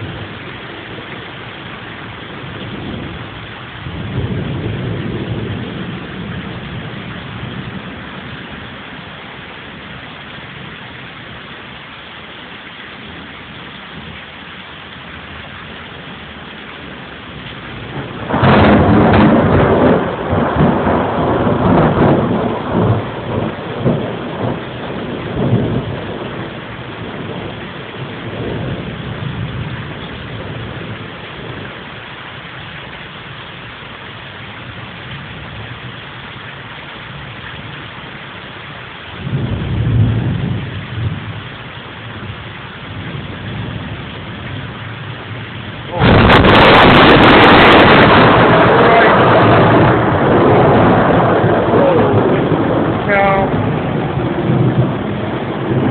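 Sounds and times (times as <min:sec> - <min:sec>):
thunder rumbling: 0:00.0 - 0:11.4, 0:15.1 - 0:32.0, 0:39.0 - 0:55.9
steady rain falling: 0:00.0 - 0:55.9.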